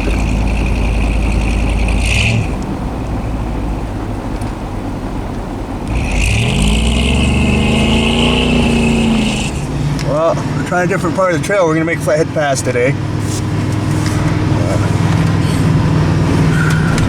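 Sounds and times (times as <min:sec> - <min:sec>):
pickup truck engine revving: 0:00.0 - 0:17.0.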